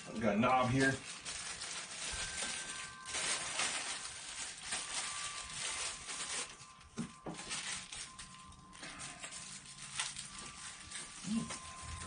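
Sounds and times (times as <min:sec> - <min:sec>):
packaging rustling and scraping: 0:00.0 - 0:12.0.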